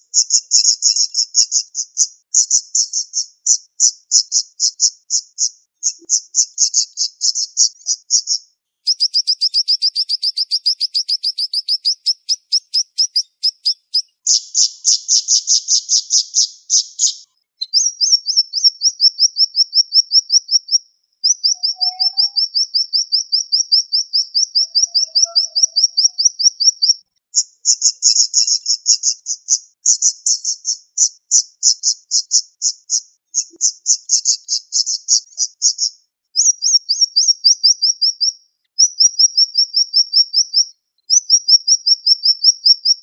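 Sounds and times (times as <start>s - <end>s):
songbird singing rapid trills: 0.0s - 43.0s.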